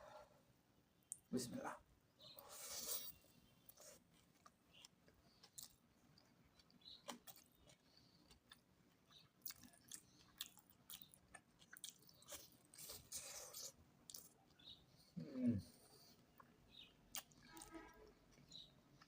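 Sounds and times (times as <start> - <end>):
person chewing food: 2.4 - 15.1, 15.8 - 19.0.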